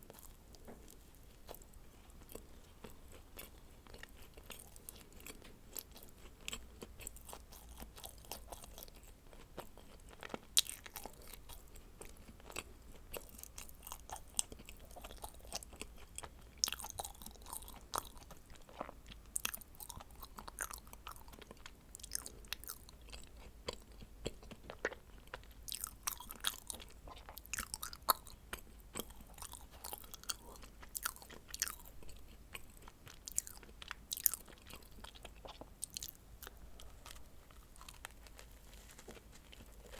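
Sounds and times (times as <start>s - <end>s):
crisp chewing: 0.0s - 39.9s.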